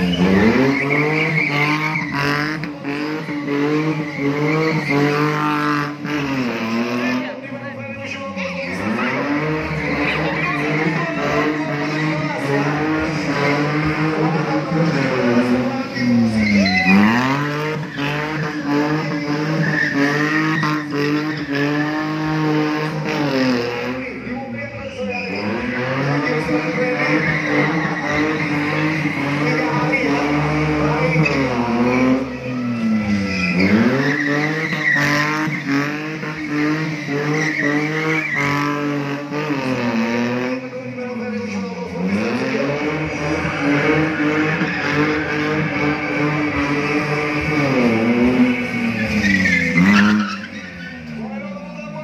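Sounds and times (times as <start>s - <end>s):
tyres squealing: 0.0s - 6.8s, 8.0s - 52.0s
truck engine at high revs: 0.0s - 52.0s.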